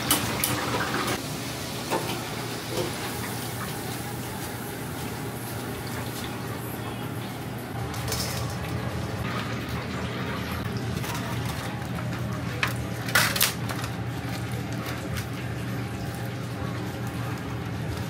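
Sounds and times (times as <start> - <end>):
kitchen hum: 0.0 - 18.0.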